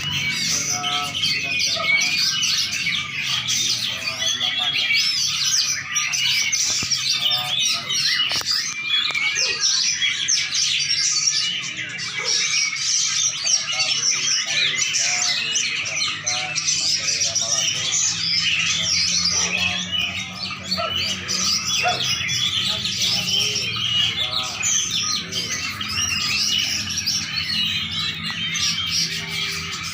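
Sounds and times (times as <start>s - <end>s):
songbird chirping and trilling: 0.0s - 29.9s.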